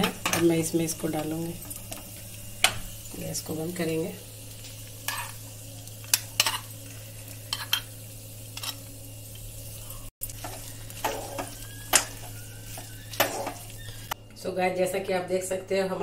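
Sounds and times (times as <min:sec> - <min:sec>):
ghee sizzling: 0:00.0 - 0:14.2.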